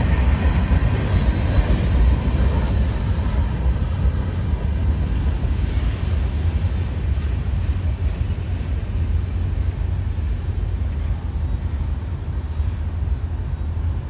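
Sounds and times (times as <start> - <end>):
freight train wheels clattering: 0.0 - 14.0
steady low rumble: 0.0 - 14.0.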